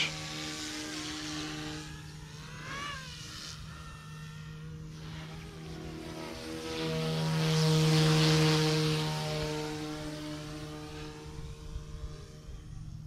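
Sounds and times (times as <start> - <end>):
rc helicopter rotor whining: 0.0 - 13.0.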